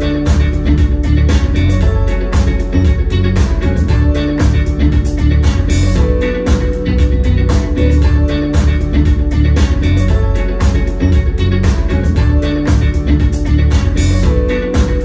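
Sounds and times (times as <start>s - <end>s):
music with guitar bass and drums: 0.0s - 15.0s.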